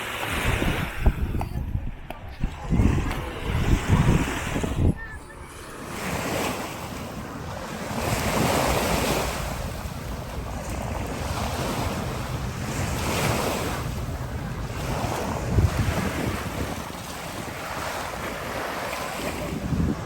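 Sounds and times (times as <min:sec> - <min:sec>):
wind buffeting microphone: 0:00.0 - 0:20.0
waves washing onto sandy beach: 0:02.2 - 0:20.0.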